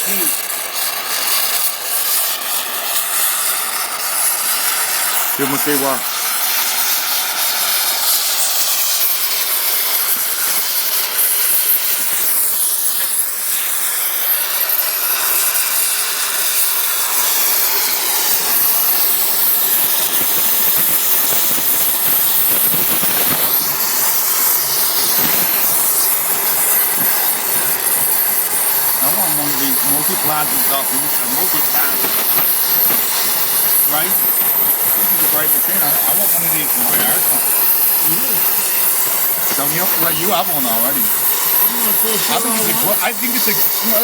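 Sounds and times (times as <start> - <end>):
plasma torch hissing: 0.0 - 44.0.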